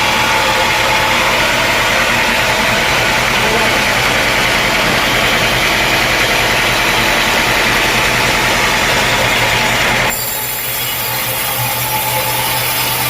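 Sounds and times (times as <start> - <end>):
sawmill engine running: 0.0 - 13.0.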